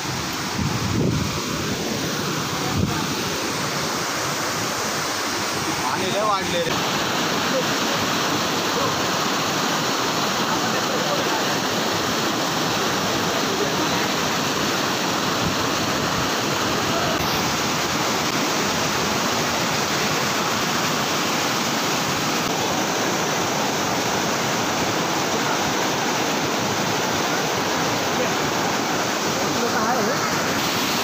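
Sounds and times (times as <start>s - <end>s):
stream rushing over boulders: 0.0s - 31.0s.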